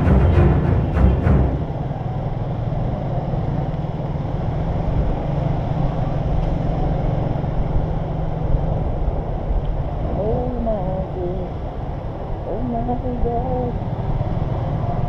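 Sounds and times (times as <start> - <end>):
motorcycle engine hum: 0.0 - 15.0
road noise: 0.0 - 15.0.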